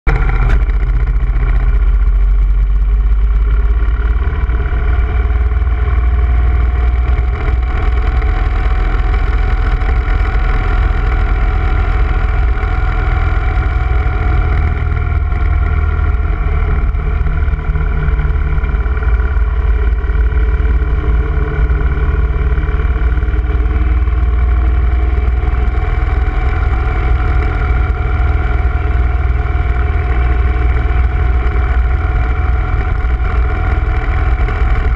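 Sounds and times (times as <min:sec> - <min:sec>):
motorcycle engine cruising: 0:00.1 - 0:34.9
wind rumble on microphone: 0:00.1 - 0:34.9.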